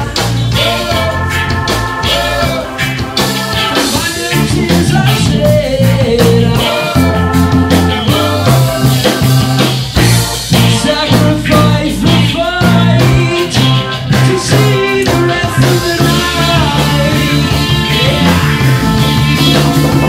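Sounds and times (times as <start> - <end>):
person singing: 0.0 - 20.0
reggae band playing: 0.0 - 20.0.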